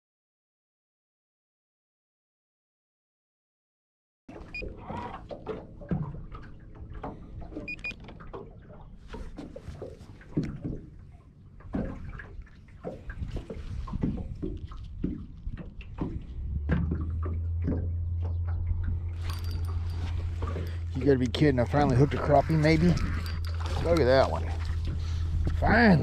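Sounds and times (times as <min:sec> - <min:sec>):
waves lapping against boat: 0:04.3 - 0:26.0.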